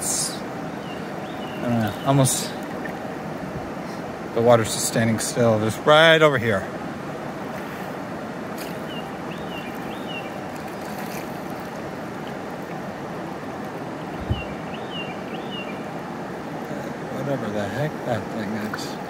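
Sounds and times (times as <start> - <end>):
river rapids rushing: 0.0 - 19.0.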